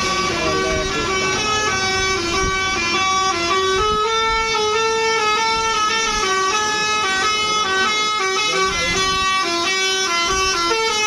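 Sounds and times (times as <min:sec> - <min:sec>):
multi-note bus horn playing a tune: 0:00.0 - 0:11.0.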